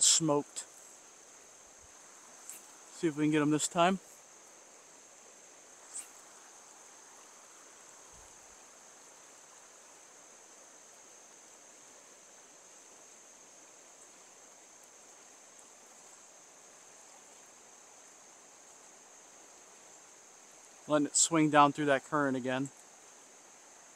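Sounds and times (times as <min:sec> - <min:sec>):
flowing river water: 0:00.0 - 0:23.9
high insect buzz: 0:00.0 - 0:23.9.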